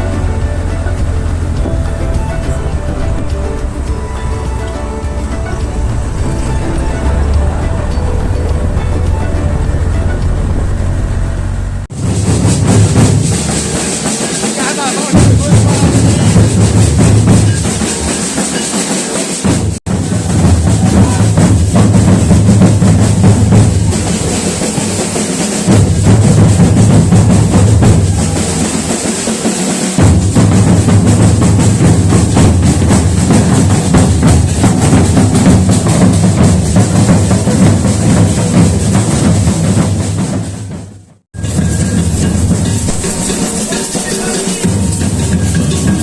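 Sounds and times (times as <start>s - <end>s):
music with drums and bass: 0.0s - 46.0s.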